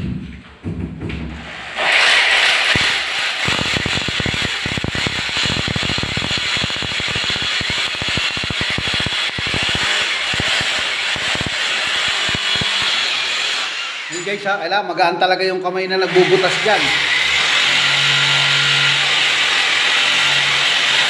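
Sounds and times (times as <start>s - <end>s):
hammer drill boring tile: 1.4s - 14.5s, 16.0s - 21.0s.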